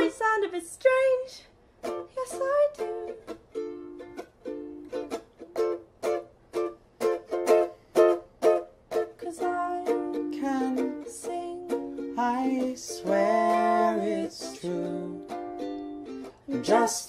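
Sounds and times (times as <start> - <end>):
strummed string instrument chords: 1.8 - 17.0.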